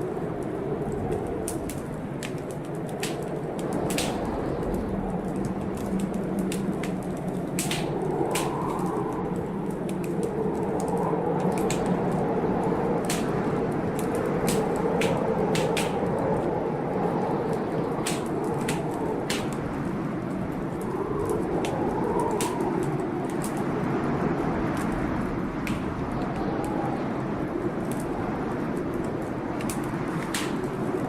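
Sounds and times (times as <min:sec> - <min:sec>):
storm rain: 0:00.0 - 0:31.0
wind: 0:00.0 - 0:31.0
wood fire crackling and popping: 0:00.0 - 0:31.0.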